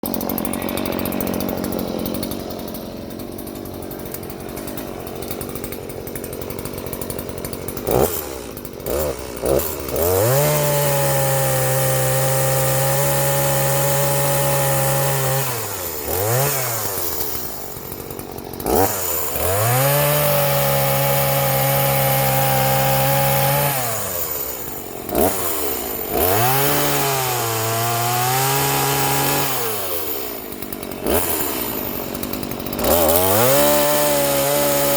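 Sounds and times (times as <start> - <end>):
chainsaw engine revving: 0.0 - 34.9.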